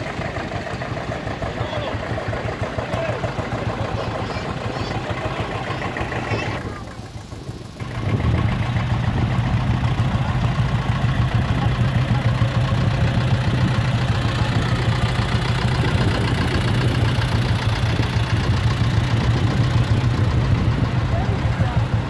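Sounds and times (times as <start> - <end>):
tractor engine running: 0.0 - 22.0
truck engine: 0.0 - 22.0.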